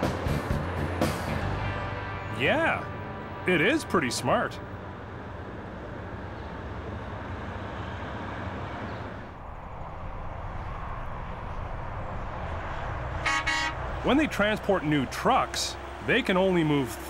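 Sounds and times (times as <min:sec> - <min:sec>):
heavy trucks road noise: 0:00.0 - 0:17.0.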